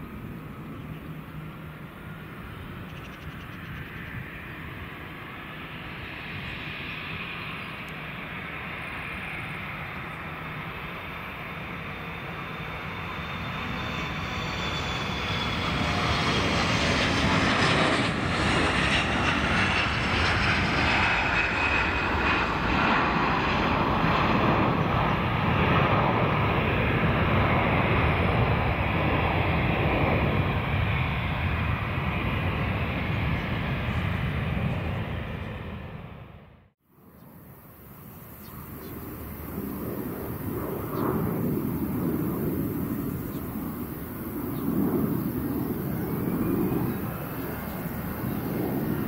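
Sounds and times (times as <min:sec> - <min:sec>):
jet engines rumbling and whining: 0:00.0 - 0:49.0.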